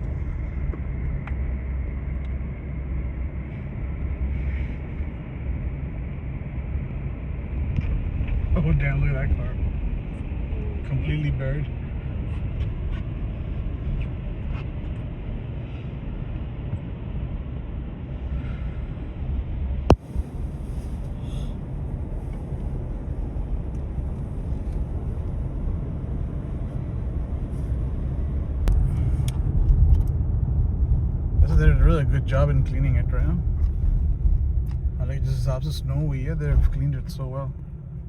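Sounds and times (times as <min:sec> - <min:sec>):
moving car rumble: 0:00.0 - 0:38.0.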